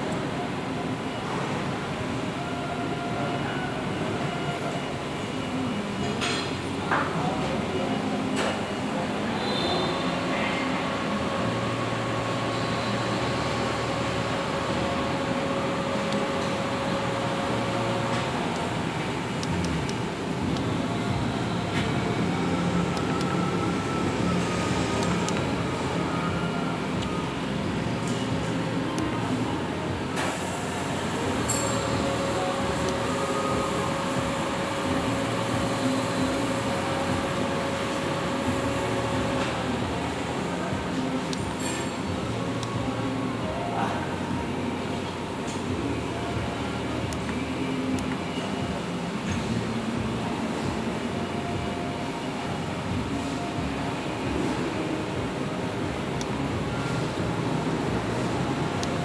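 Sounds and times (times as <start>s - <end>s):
faint steady whine: 0.0s - 59.0s
machinery hum and fan rush: 0.0s - 59.0s.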